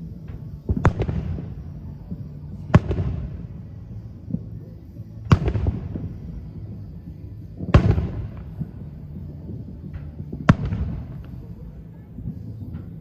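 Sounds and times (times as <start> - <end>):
faint firework crackles: 0.0 - 13.0
firework booms echoing: 0.0 - 13.0.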